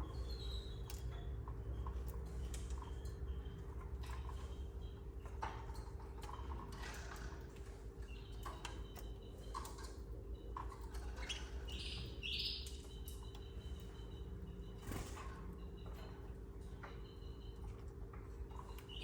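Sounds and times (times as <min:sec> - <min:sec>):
canaries chirping: 0:00.0 - 0:19.0
low electrical hum: 0:00.0 - 0:19.0.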